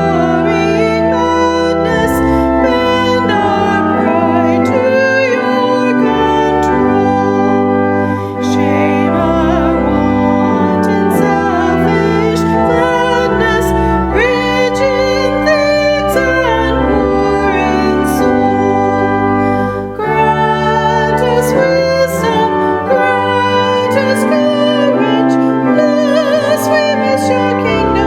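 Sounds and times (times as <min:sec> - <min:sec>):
held keyboard chords: 0:00.0 - 0:28.0
person singing with vibrato: 0:00.0 - 0:28.0.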